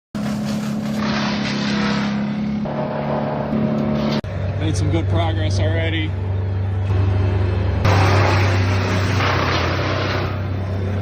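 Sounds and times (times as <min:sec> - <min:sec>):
engine running steadily: 0:00.2 - 0:11.0
harsh noisy rush: 0:00.2 - 0:11.0.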